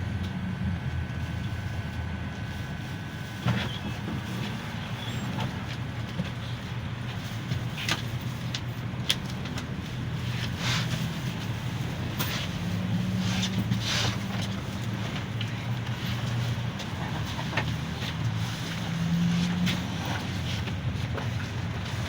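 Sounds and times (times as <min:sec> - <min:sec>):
engine and road drone: 0:00.0 - 0:22.0
rattles and knocks from vehicle body: 0:03.4 - 0:22.0.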